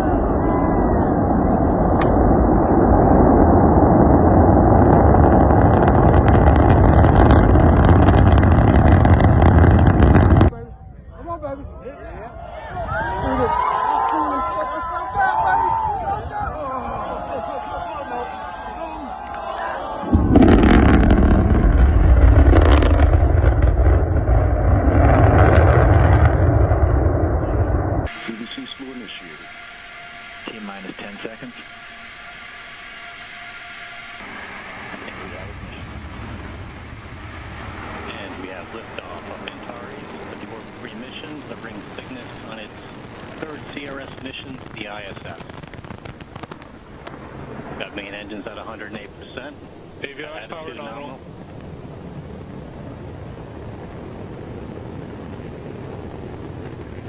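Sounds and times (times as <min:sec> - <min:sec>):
crackling: 0:00.0 - 0:10.5, 0:19.2 - 0:57.0
rocket roaring: 0:00.0 - 0:10.5, 0:18.3 - 0:57.0.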